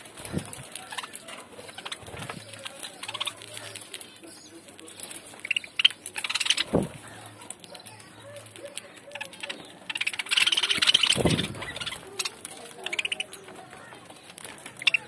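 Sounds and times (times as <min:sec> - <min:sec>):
faint pecking clicks: 0:00.0 - 0:15.0
leaf rustling: 0:00.0 - 0:15.0
budgerigars chirping: 0:00.7 - 0:13.4, 0:14.8 - 0:15.0.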